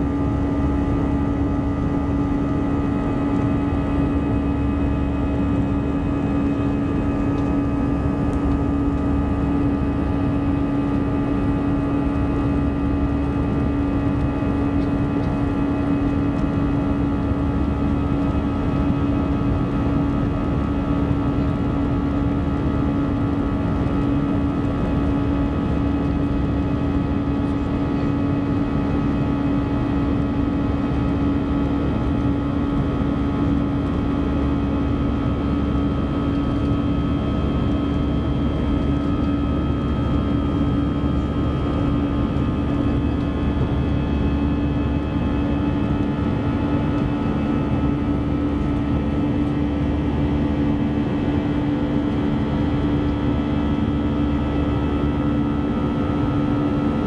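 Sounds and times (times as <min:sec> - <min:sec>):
jet airliner cabin drone: 0:00.0 - 0:57.0.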